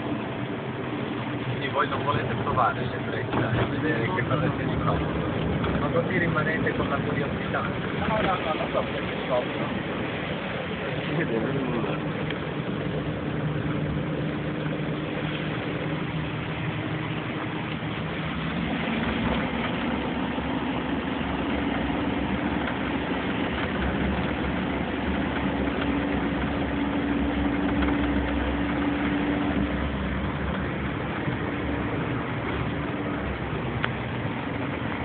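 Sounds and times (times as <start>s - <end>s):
car engine hum: 0.0s - 35.0s
deep road rumble: 0.0s - 35.0s.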